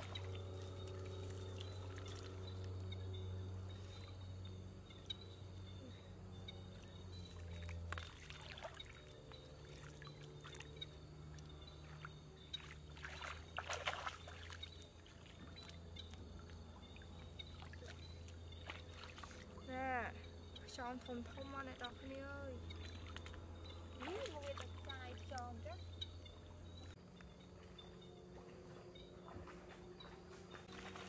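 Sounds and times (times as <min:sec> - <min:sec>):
water splashing and trickling: 0:00.0 - 0:05.2, 0:06.6 - 0:31.0
steady low hum: 0:00.0 - 0:31.0.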